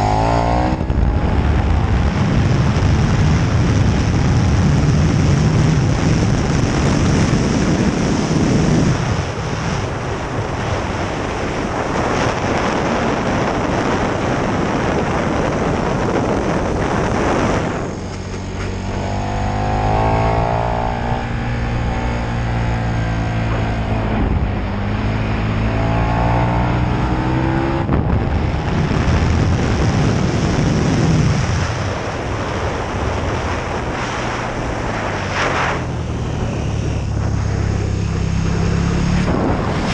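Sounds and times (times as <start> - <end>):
motorcycle engine running hard: 0.0 - 39.9
wind rush: 0.0 - 39.9.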